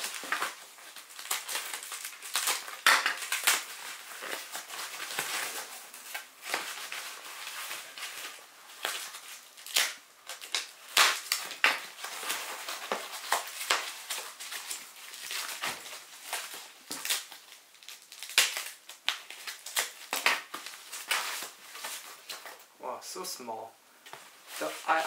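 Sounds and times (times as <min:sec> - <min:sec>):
foam wrap and plastic bag rustling: 0:00.0 - 0:22.7, 0:24.0 - 0:25.0.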